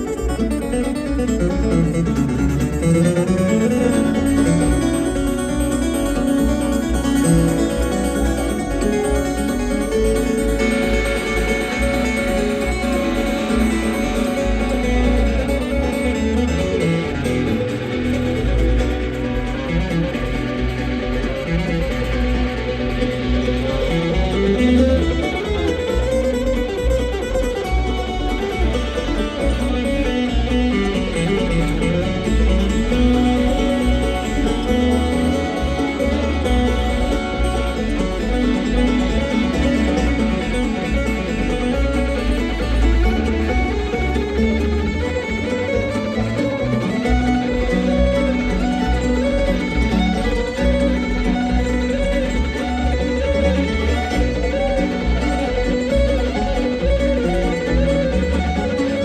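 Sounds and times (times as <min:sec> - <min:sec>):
bluegrass band playing: 0:00.0 - 0:59.0
guitar: 0:00.0 - 0:59.0
picked acoustic string instruments: 0:00.0 - 0:59.0
pulsing bass line: 0:00.0 - 0:59.0.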